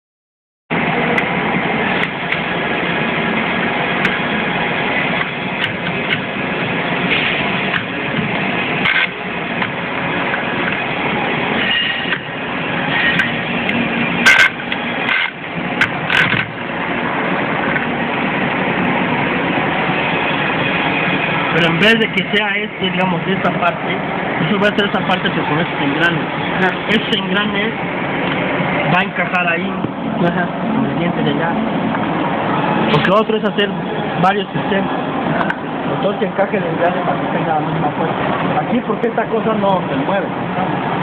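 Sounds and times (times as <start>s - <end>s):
workshop machine droning: 0.7s - 41.0s.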